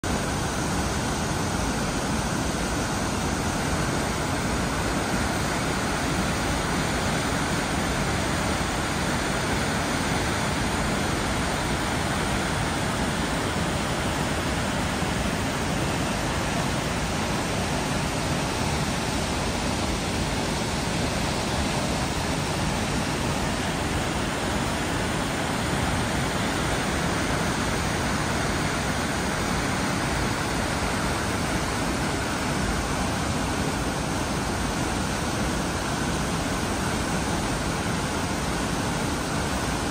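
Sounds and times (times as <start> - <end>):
large waterfall rushing: 0.0 - 39.9.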